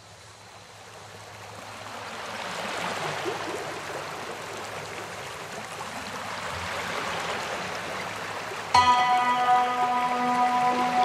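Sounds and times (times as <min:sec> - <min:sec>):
waves washing on sandy beach: 0:00.4 - 0:11.0.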